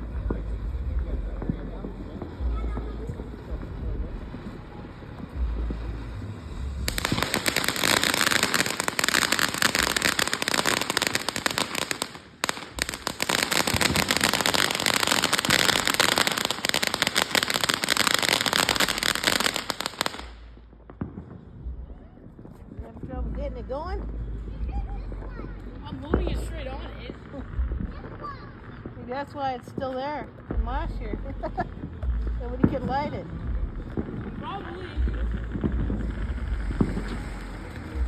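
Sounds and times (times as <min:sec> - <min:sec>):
firework crackling: 0:00.0 - 0:23.4, 0:25.9 - 0:38.0.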